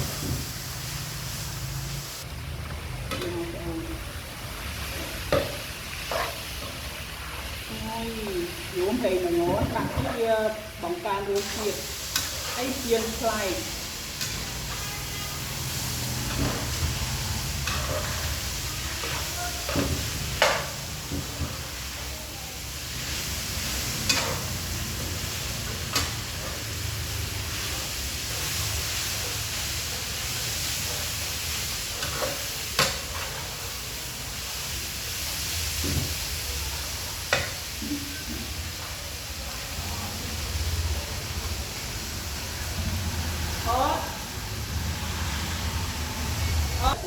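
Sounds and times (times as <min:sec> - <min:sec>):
food sizzling in a pan: 0:00.0 - 0:47.0.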